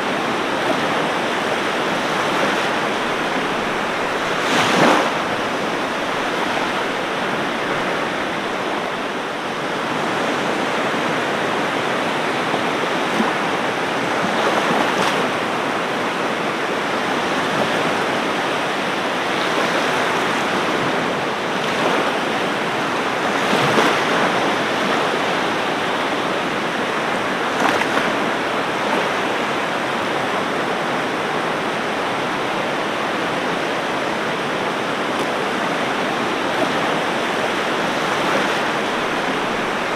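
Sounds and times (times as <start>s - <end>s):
ocean surf washing onto beach: 0.0s - 39.9s
waves breaking with splashes: 0.0s - 39.9s.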